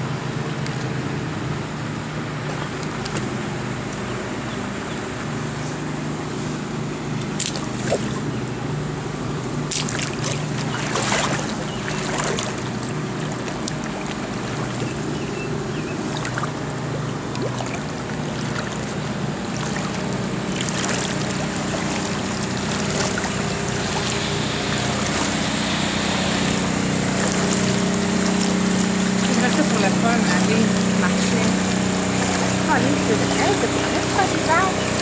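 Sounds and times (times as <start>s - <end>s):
pump motor humming: 0.0s - 35.0s
water sloshing and splashing: 0.0s - 35.0s.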